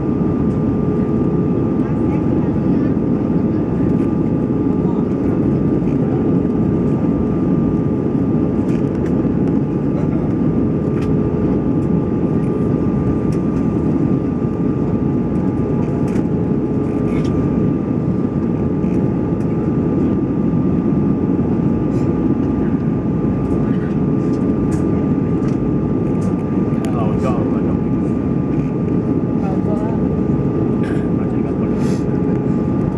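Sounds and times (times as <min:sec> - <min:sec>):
jet engine cabin drone: 0:00.0 - 0:32.9.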